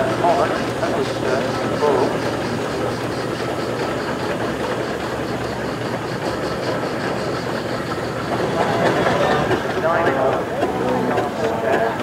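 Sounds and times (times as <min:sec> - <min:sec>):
steam engine beat: 0:00.0 - 0:12.0.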